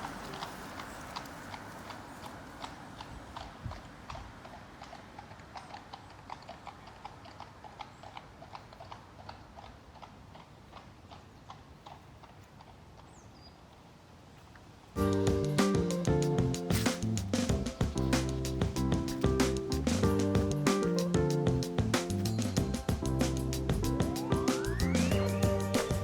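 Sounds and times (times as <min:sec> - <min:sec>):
horse hooves clip-clopping: 0:00.0 - 0:13.1, 0:15.0 - 0:26.0.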